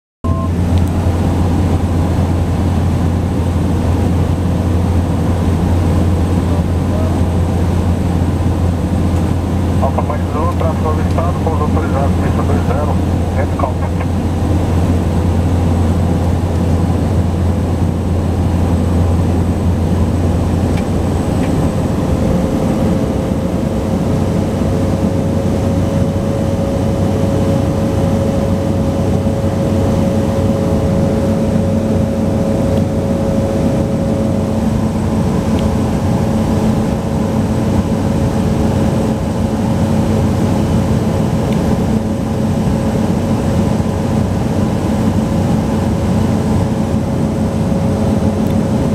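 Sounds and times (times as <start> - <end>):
high engine whine: 0.2 - 48.9
turboprop engine drone: 0.2 - 48.9.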